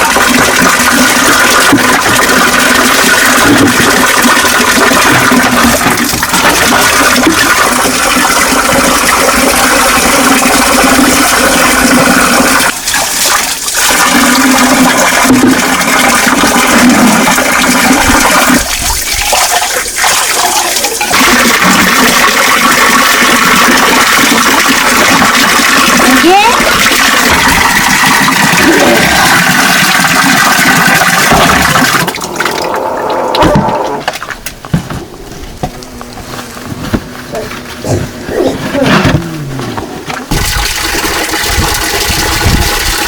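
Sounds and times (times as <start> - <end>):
running water rushing: 0.0 - 43.0.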